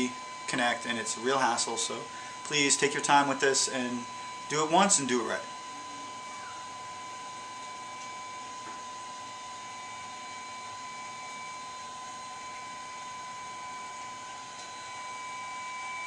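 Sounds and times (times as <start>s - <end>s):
high steady whine of equipment: 0.0s - 16.0s.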